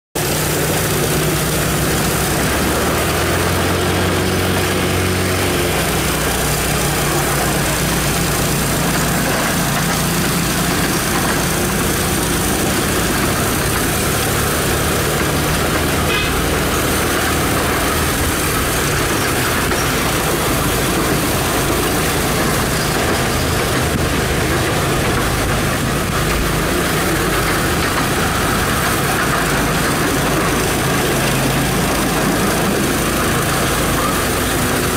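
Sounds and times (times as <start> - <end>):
trolley wheels running on rails: 0.2 - 34.9.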